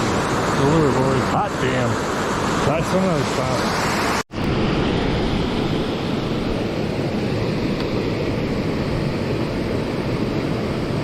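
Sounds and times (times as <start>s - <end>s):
waterfall and rapids rushing: 0.0s - 11.0s.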